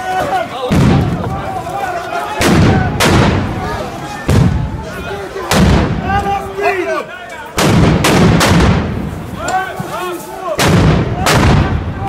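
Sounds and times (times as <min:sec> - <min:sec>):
people shouting: 0:00.0 - 0:07.7, 0:09.3 - 0:12.0.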